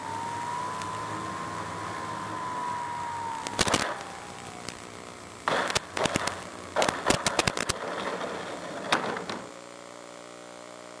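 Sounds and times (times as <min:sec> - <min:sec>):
model airplane rolling on asphalt: 0:00.0 - 0:09.7
steady electrical buzz: 0:00.0 - 0:11.0.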